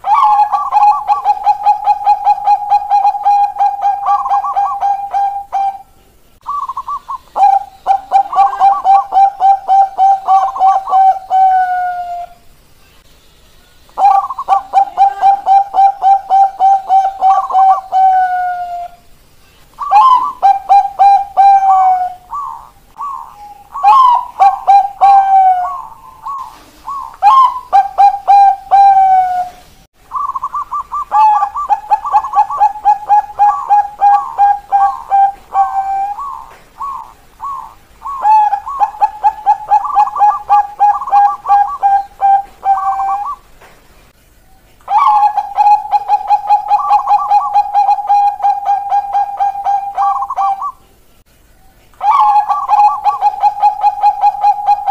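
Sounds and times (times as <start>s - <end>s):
doves cooing: 0.0s - 12.4s, 14.0s - 19.1s, 19.8s - 43.6s, 44.9s - 51.0s, 52.0s - 54.9s.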